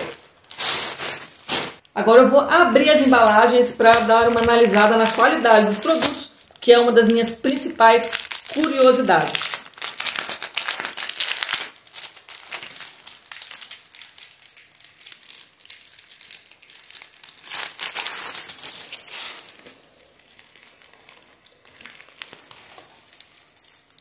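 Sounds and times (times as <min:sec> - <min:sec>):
thin plastic crinkling: 0:00.0 - 0:01.9, 0:02.8 - 0:24.0.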